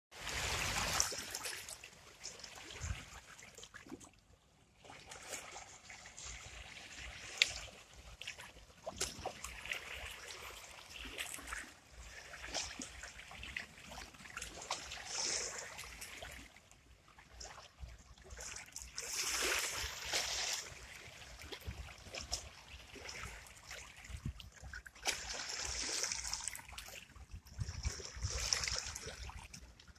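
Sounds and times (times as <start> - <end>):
waves lapping over rocks: 0.2 - 4.0, 4.6 - 29.9.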